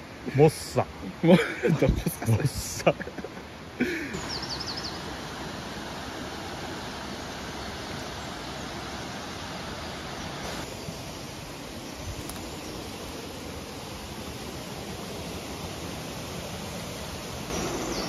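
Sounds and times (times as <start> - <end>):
rushing river water: 0.0 - 18.0.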